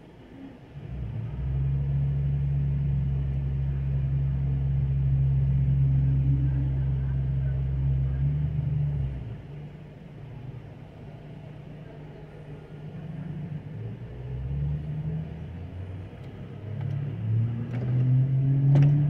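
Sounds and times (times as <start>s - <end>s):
vehicle engine droning: 0.0s - 19.0s.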